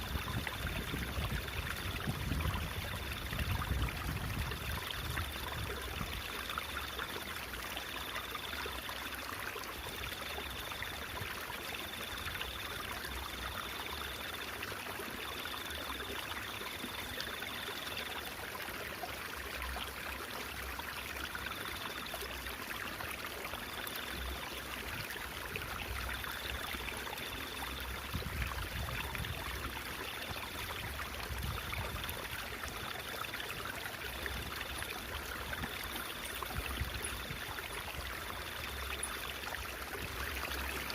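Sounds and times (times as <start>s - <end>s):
stream babbling and trickling: 0.0s - 40.9s.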